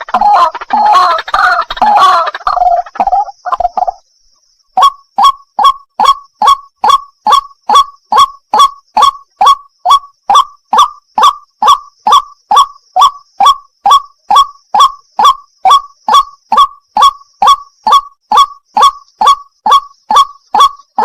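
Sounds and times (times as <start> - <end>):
waterhen calling: 0.0 - 4.0, 4.8 - 21.0.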